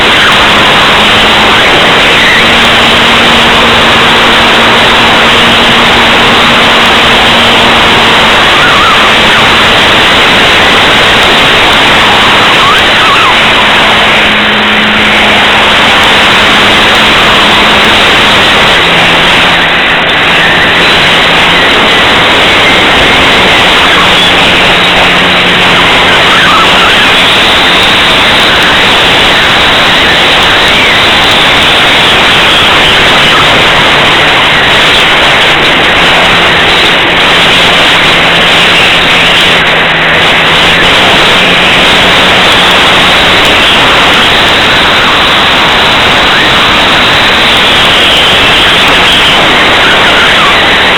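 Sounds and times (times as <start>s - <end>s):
model plane motor drone: 0.0s - 50.9s.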